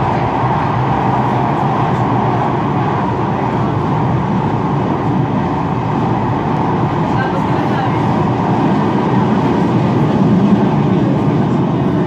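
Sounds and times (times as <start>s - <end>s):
tram running noise: 0.0s - 12.0s.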